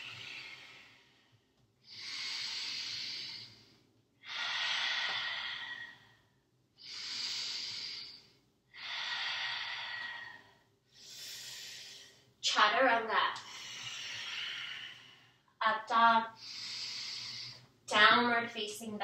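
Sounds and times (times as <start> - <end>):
woman breathing slowly: 0.0 - 12.4, 13.4 - 15.6, 16.3 - 17.8.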